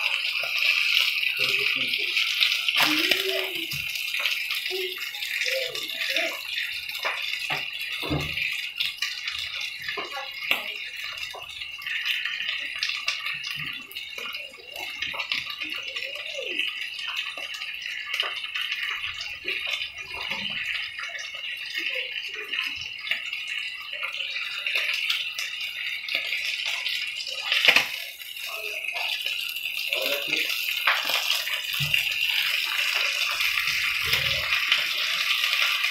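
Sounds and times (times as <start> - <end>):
steaks sizzling in a frying pan: 0.0 - 35.9.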